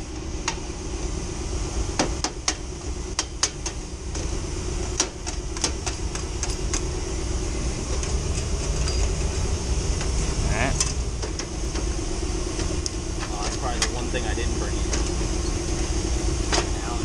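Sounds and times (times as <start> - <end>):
hvac equipment humming: 0.0 - 17.0.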